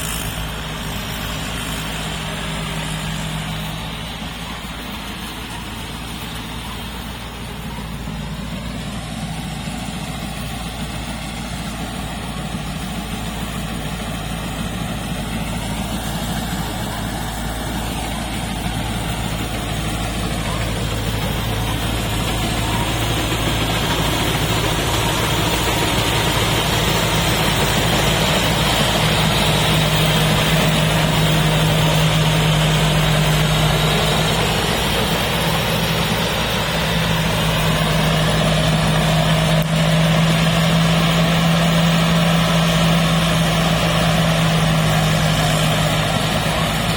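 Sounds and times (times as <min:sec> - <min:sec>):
diesel harvester engine running: 0:00.0 - 0:46.9.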